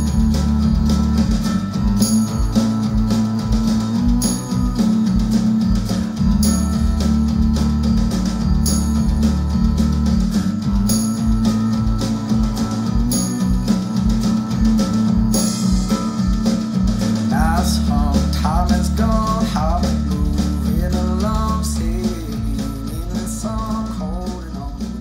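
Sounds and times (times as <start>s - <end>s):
person singing: 0.0s - 25.0s
rock song with guitar and drums: 0.0s - 25.0s.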